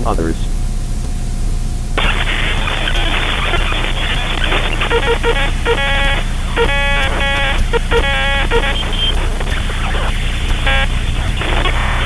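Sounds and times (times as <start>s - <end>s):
distorted buzzing pulses: 2.0s - 12.0s
harsh static: 2.0s - 12.0s.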